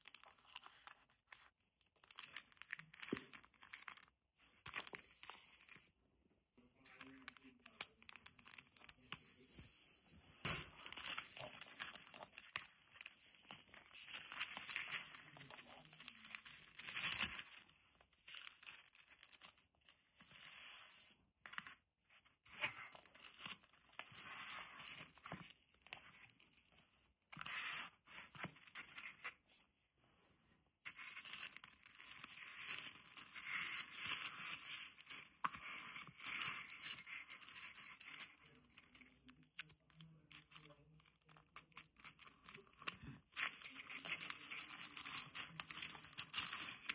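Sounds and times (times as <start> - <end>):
paper rustling and crinkling: 0.0 - 5.8, 6.9 - 29.7, 30.8 - 46.9.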